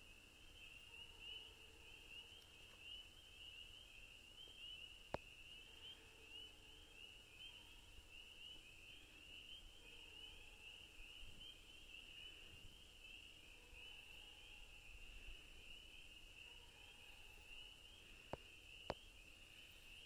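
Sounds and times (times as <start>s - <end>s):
chorus of peeping frogs: 0.0s - 20.0s.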